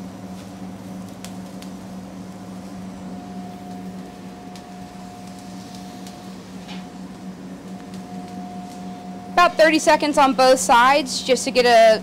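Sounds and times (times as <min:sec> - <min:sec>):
faint steady whine: 0:00.0 - 0:12.0
grill and exhaust hood hum: 0:00.0 - 0:12.0.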